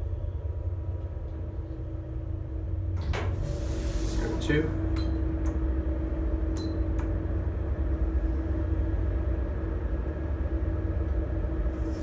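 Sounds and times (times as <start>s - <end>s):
elevator pump motor humming: 0.0s - 12.0s.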